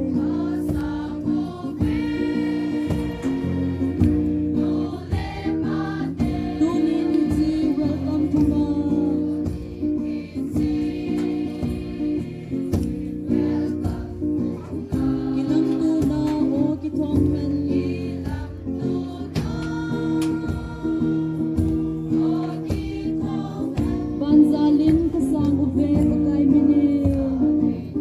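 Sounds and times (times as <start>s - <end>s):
group singing: 0.0s - 28.0s
guitar: 0.0s - 28.0s.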